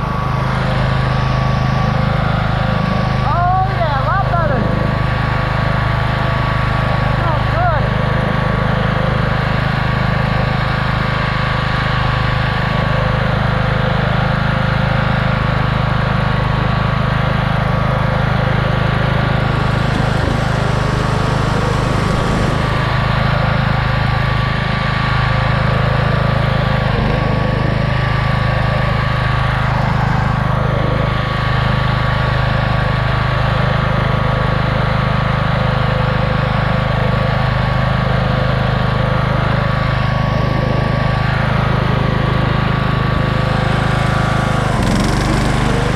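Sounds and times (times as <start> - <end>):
high whine: 0.0 - 14.2, 15.3 - 32.8, 38.6 - 45.9
lawnmower engine running: 0.0 - 45.9.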